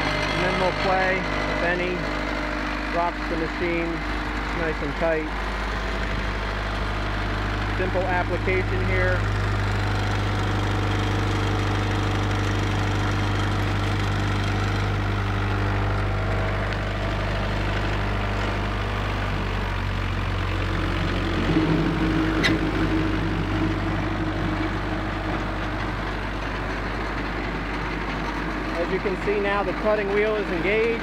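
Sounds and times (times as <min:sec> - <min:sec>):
cutting wheel spinning: 0:00.0 - 0:31.0
stump grinder engine running: 0:00.0 - 0:31.0.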